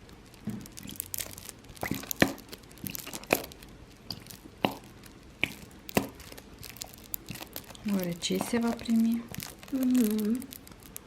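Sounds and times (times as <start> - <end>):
packets crinkling: 0.0 - 11.0.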